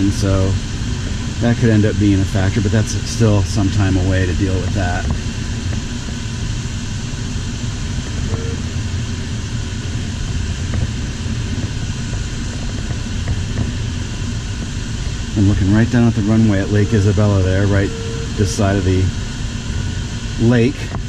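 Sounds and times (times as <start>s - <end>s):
low rumble: 3.4s - 21.0s.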